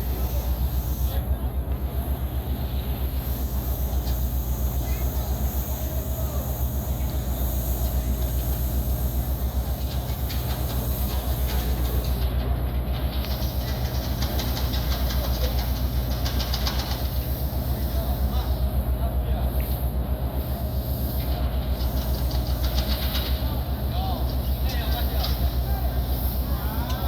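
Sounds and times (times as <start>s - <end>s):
ship diesel engine throbbing: 0.0s - 27.0s.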